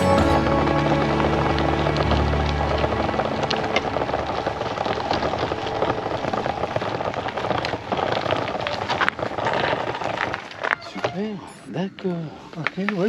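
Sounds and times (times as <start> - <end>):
bicycle tyres crunching gravel: 0.0 - 11.4.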